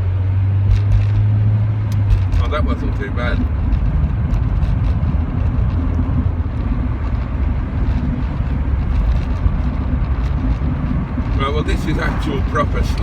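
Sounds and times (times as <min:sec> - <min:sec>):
misfiring car engine rumble: 0:00.0 - 0:13.0.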